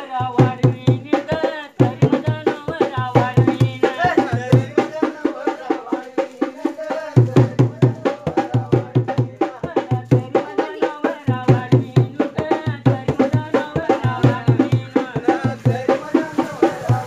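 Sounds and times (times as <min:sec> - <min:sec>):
barrel drum beaten by hand: 0:00.0 - 0:17.0
voices singing: 0:00.0 - 0:17.0.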